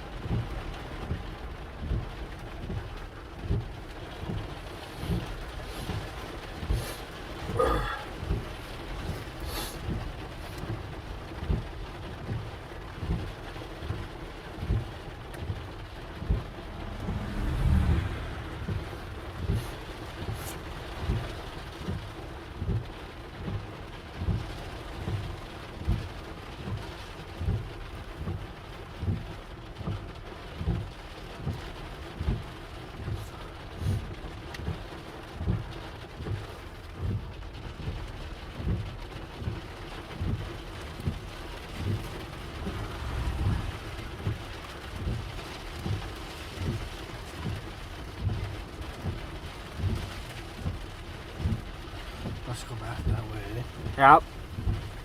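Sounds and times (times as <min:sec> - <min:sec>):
heavy rain drumming on a car: 0:00.0 - 0:55.0
windshield wipers thumping: 0:00.2 - 0:55.0.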